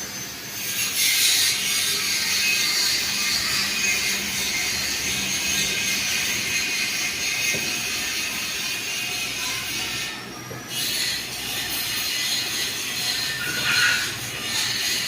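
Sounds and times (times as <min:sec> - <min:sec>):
ceiling fan air whoosh: 0:00.0 - 0:15.0.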